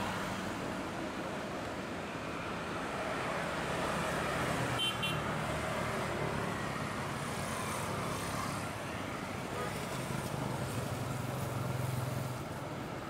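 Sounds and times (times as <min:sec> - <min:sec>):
car and motorcycle engines: 0:00.0 - 0:13.0.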